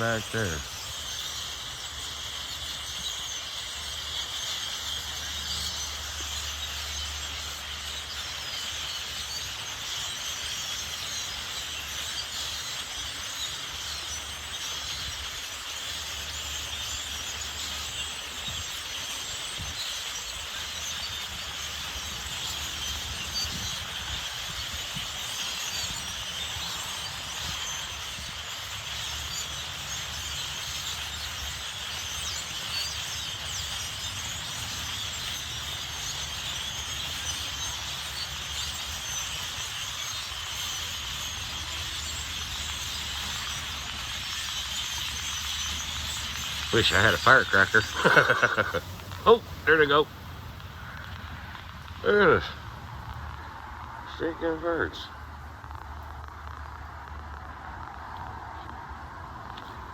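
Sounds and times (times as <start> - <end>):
flock of birds chattering: 0.0 - 59.9.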